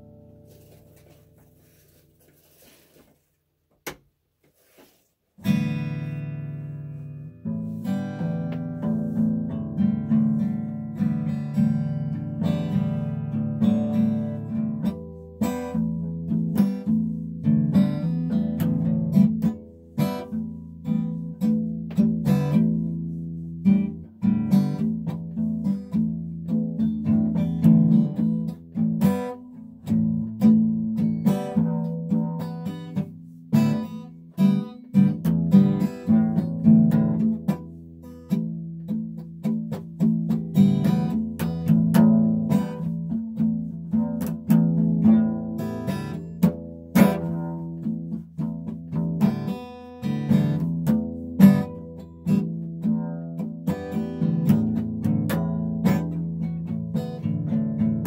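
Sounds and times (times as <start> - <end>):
acoustic guitar plucking and strumming: 0.0 - 3.3, 4.5 - 58.0.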